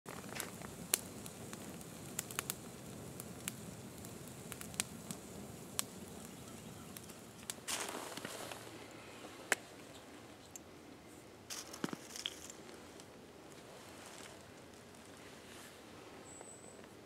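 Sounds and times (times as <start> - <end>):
campfire crackling and popping: 0.1 - 10.7, 11.5 - 15.3.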